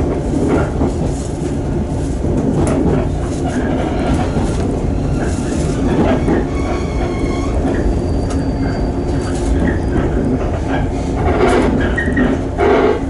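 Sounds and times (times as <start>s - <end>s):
rail clacks: 0.0s - 13.0s
train wheels rumbling on rails: 0.0s - 13.0s.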